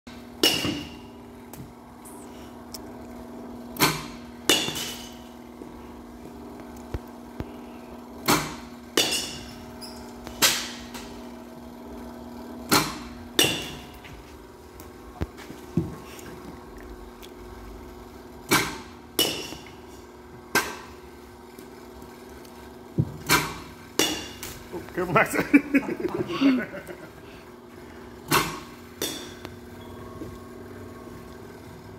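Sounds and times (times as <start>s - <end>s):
steady hum: 0.1s - 31.9s.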